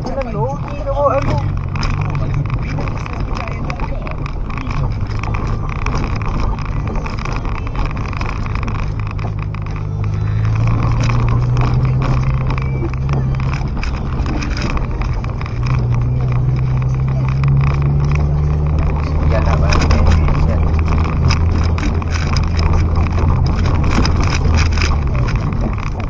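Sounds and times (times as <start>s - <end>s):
car engine drone: 0.0s - 26.0s
tyres rumbling on dirt road: 0.0s - 26.0s.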